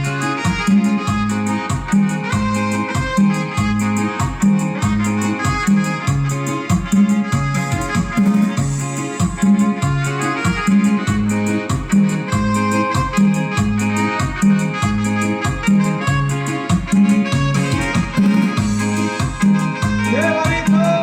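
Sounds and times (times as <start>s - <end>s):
bass on a steady beat: 0.0s - 21.0s
keyboard melody: 0.0s - 21.0s.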